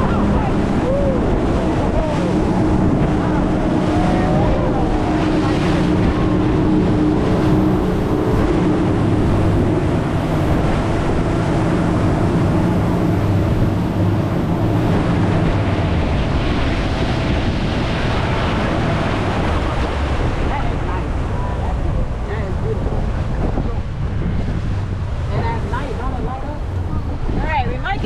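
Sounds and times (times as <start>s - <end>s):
rush of wind and water: 0.0s - 28.0s
speedboat engine running: 0.0s - 28.0s.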